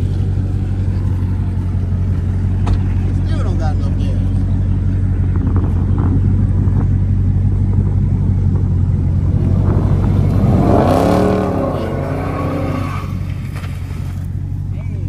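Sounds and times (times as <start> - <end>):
car engine rumbling and revving: 0.0 - 15.0.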